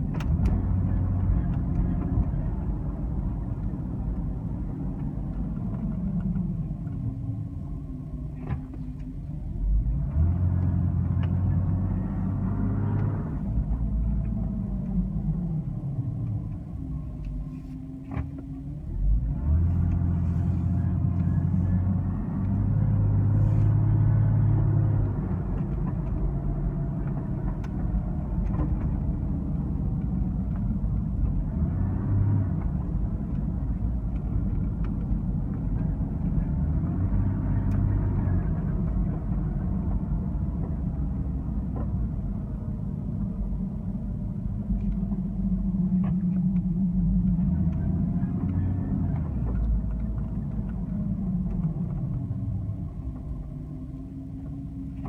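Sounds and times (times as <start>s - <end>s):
car engine rumbling: 0.0s - 55.0s
low droning hum: 0.0s - 55.0s.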